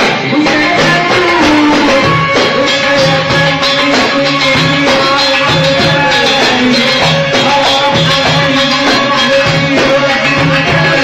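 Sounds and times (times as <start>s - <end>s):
drum kit steady beat: 0.0s - 11.0s
live band music: 0.0s - 11.0s.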